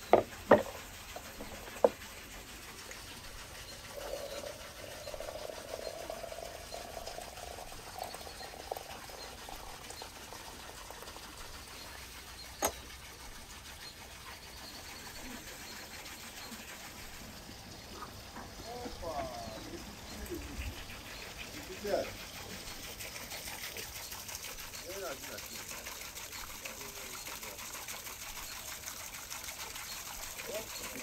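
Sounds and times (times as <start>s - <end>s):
water filling teapot: 0.0s - 31.0s.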